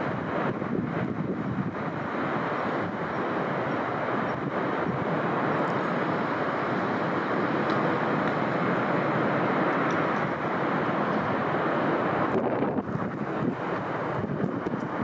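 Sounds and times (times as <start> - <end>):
strong wind rushing: 0.0 - 9.6, 10.2 - 15.0.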